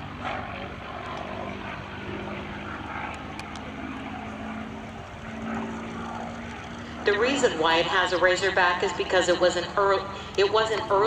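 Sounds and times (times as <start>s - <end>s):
propeller plane engine in flight: 0.0s - 11.0s.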